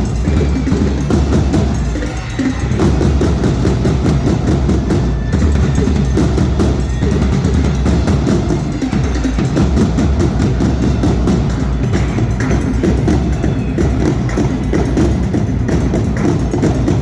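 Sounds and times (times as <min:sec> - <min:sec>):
band drums playing driving beat: 0:00.0 - 0:17.0.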